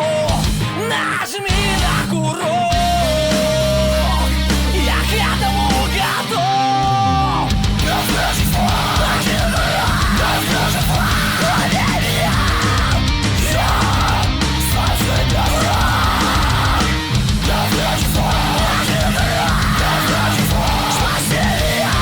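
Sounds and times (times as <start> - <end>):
heavy rock music: 0.0 - 22.0.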